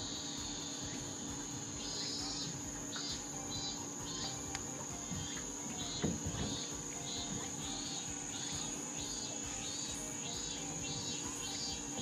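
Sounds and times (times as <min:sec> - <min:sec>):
cicadas droning: 0:00.0 - 0:12.0
pulsing cicada call: 0:00.0 - 0:12.0.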